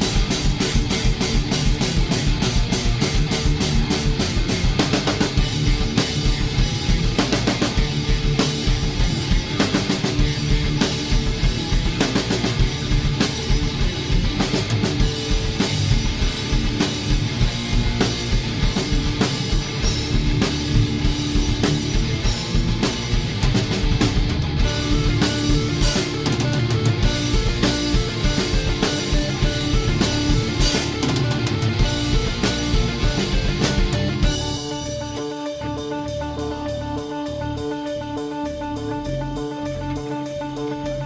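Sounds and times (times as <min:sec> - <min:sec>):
drum hits: 0:00.0 - 0:37.4
rock band playing live: 0:00.0 - 0:41.0.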